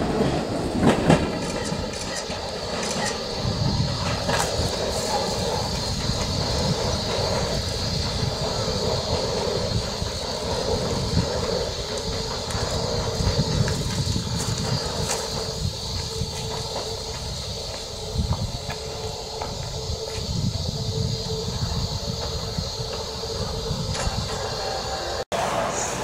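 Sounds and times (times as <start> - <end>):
electric train rumbling: 0.0 - 26.0.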